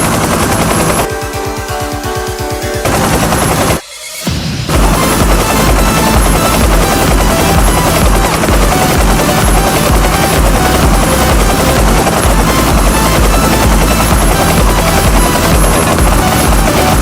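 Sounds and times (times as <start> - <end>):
helicopter rotor chop: 0.0 - 17.0.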